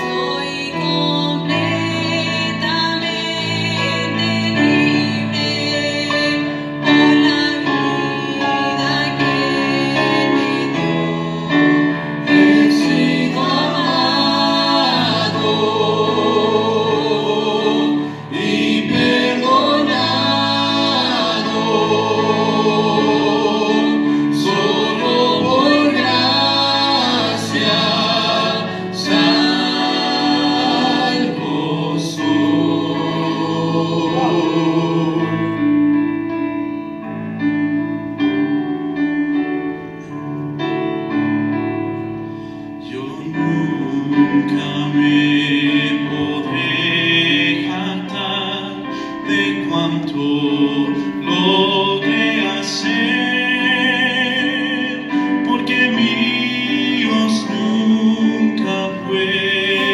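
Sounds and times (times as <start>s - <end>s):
man and woman singing hymn: 0.0s - 35.7s, 42.8s - 59.9s
piano accompaniment: 0.0s - 59.9s.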